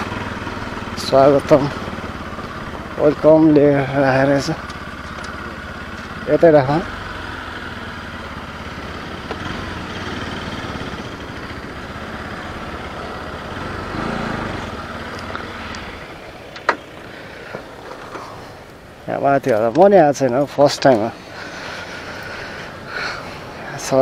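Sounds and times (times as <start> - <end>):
motorcycle engine running: 0.0 - 19.1, 20.7 - 24.0.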